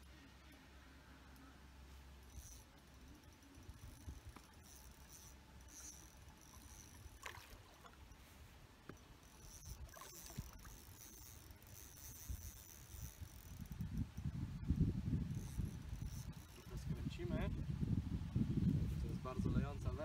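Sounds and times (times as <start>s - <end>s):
soft reel clicks: 0.0s - 17.5s
fishing rod and reel handling: 0.3s - 17.4s.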